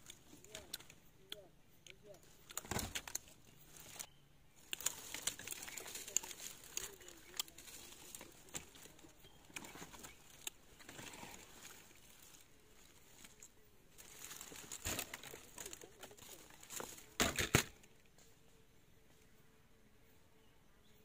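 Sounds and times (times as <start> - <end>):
rustling of leaves and twigs: 0.0 - 20.4.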